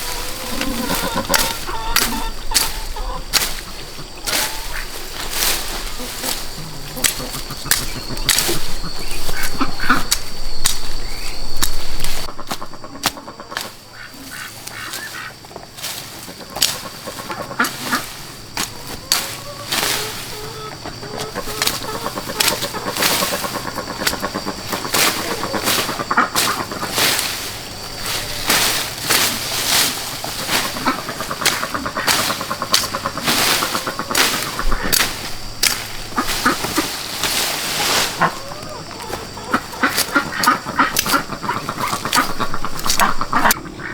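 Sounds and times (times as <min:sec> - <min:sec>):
fowl honking and calling: 0:00.0 - 0:43.9.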